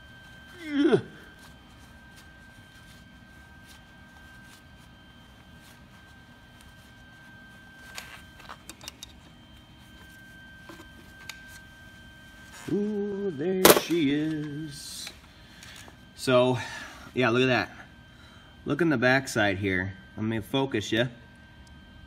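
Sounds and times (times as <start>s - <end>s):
faint steady high tone: 0.0s - 22.0s.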